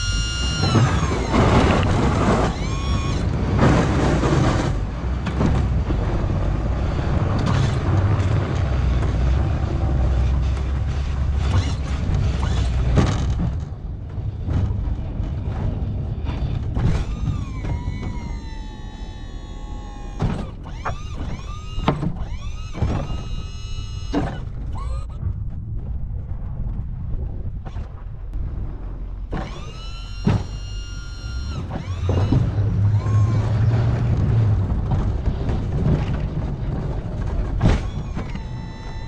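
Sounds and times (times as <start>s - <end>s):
hydraulic motor whining: 0.0s - 14.3s, 16.1s - 25.2s, 29.3s - 39.0s
plow blade scraping snow: 0.0s - 25.1s, 28.4s - 39.0s
vehicle engine rumble: 0.0s - 39.0s.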